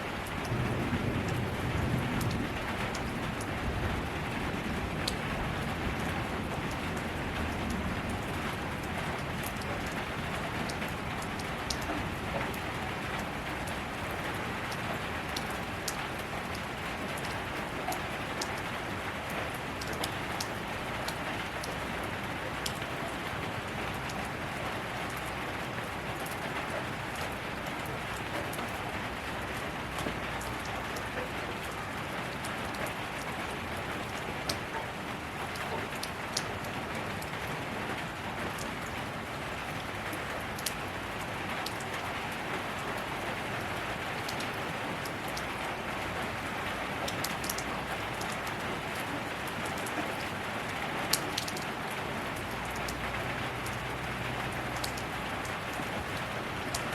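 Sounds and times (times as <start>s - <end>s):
steady rain patter: 0.0s - 56.9s.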